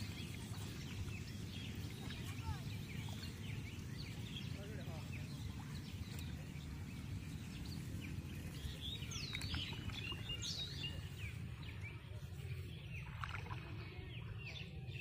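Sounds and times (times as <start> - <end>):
swooping whistled bird calls: 0.0 - 12.1
steady low rumble: 0.0 - 14.4
birds chirping and calling: 0.0 - 15.0.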